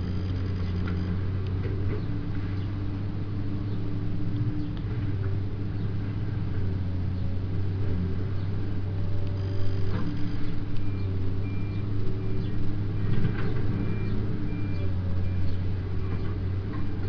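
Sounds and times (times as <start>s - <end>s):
excavator engine humming: 0.0s - 17.0s.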